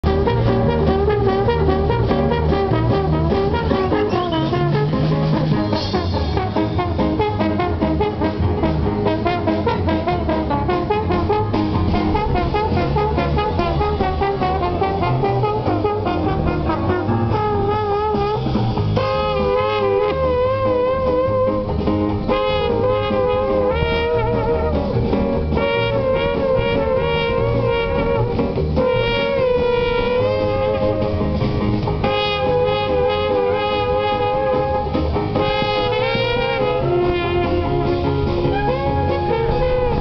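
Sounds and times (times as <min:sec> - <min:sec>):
jazz band with brass and drums: 0:00.0 - 0:40.0.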